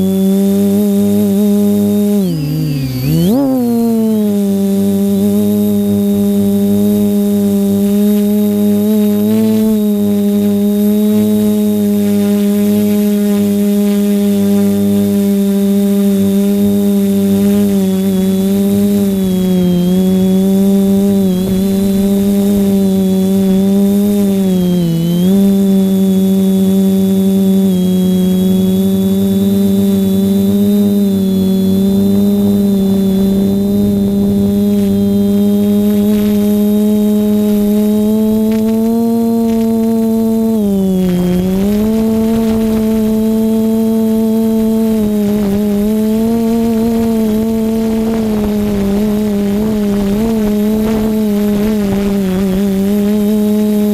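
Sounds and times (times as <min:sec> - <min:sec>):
drone propellers humming: 0:00.0 - 0:53.9.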